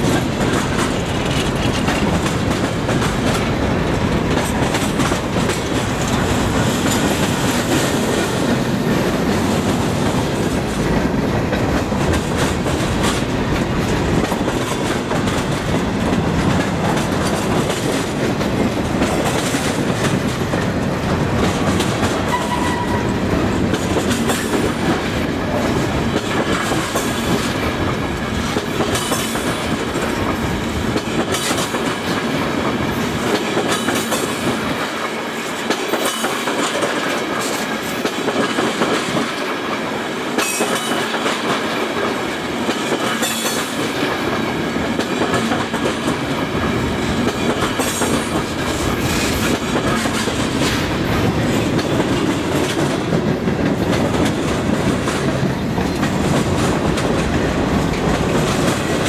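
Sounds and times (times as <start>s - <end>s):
steel wheels rumbling on rail: 0.0s - 59.0s
wheels clacking over rail joints: 0.0s - 59.0s.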